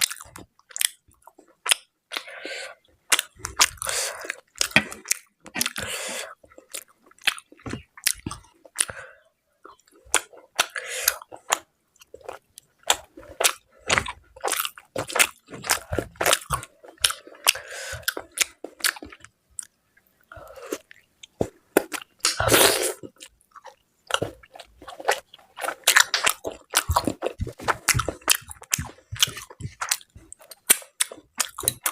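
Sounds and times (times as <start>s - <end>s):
person chewing wetly: 0.0s - 9.1s, 9.7s - 31.9s.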